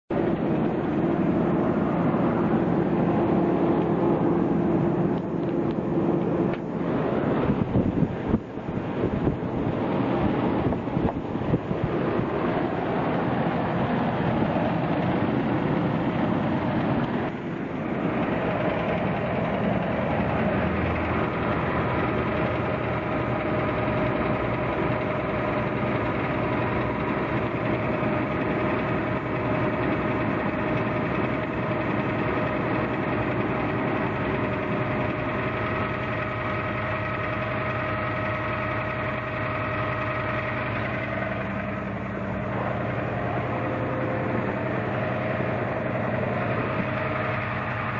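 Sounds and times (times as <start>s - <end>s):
engine idling: 0.1s - 47.9s
fast even engine knock: 5.1s - 47.9s.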